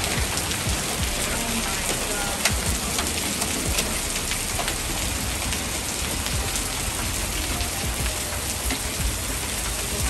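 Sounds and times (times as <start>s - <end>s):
hailstones ticking: 0.0s - 10.0s
rain hissing: 0.0s - 10.0s.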